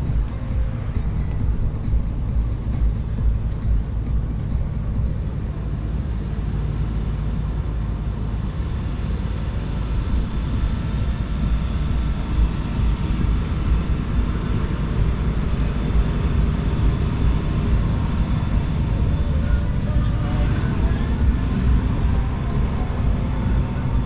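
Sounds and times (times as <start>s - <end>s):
aircraft engine rumble: 0.0s - 24.0s.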